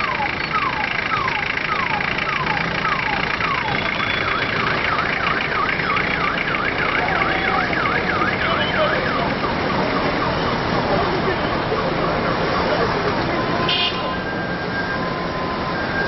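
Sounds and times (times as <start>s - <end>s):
electronic vehicle siren: 0.0s - 16.0s
traffic and engine noise: 0.0s - 16.0s.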